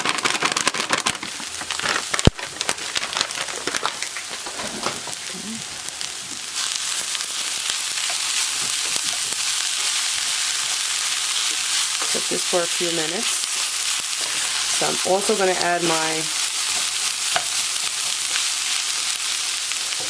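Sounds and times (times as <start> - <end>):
food sizzling in a frying pan: 1.2 - 20.0.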